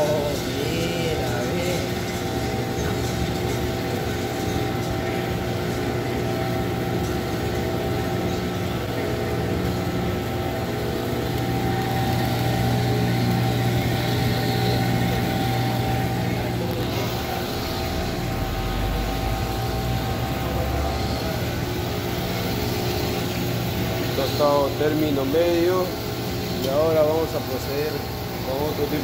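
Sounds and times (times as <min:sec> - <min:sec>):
coffee roaster mechanical hum: 0:00.0 - 0:29.0.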